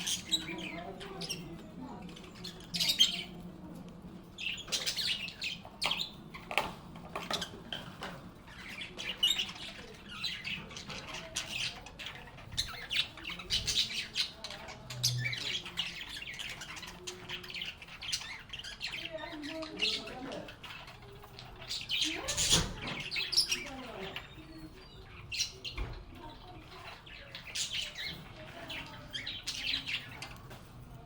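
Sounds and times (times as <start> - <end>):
lovebirds chirping: 0.0 - 31.0.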